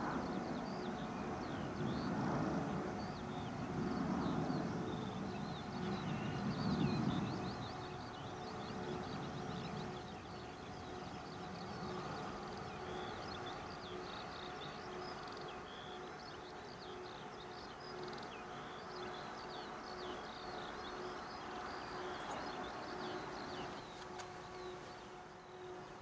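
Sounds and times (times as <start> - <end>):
distant aircraft engines hum: 0.0 - 26.0.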